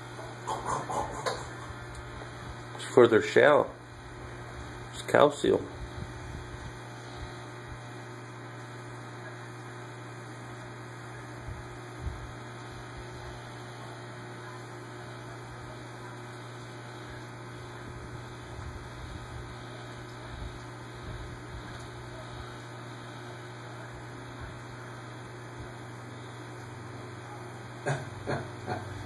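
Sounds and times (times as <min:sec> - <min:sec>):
electrical hum of aquarium equipment: 0:00.0 - 0:29.0.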